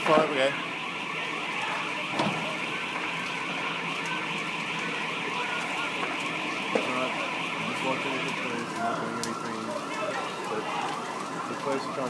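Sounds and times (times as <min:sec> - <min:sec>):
fire crackling and popping: 0:00.0 - 0:12.0
fire hissing: 0:00.0 - 0:12.0
sharp crack: 0:02.1 - 0:12.0.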